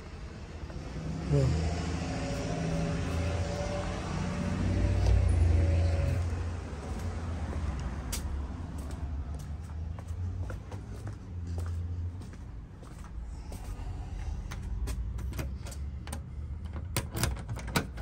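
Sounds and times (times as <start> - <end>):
car passing with low rumble: 0.0 - 16.6.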